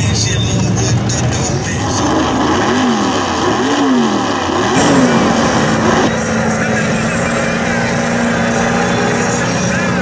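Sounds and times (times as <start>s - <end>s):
truck engines revving: 0.0s - 10.0s.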